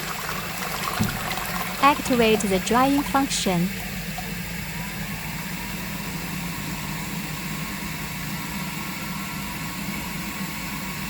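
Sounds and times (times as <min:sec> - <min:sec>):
dryer fan humming: 0:00.6 - 0:10.8.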